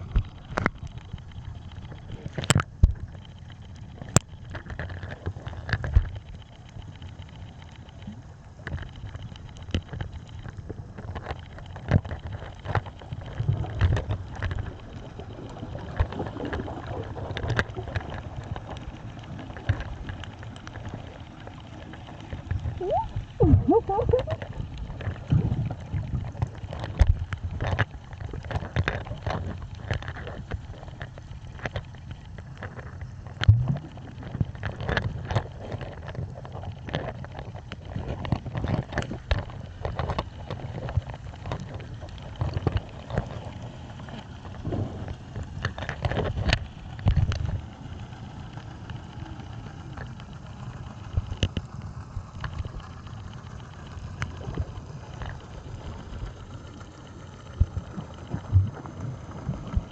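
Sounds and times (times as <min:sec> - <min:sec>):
underwater clicks and knocks: 0:00.0 - 0:47.7, 0:48.4 - 0:59.9
underwater low rumble: 0:00.0 - 0:59.9.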